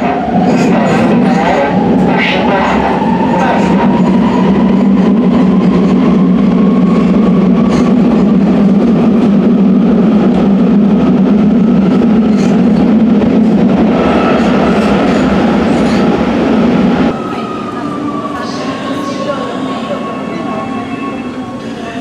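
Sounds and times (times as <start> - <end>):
train wheels rumbling: 0.0 - 22.0
train whine: 0.0 - 22.0.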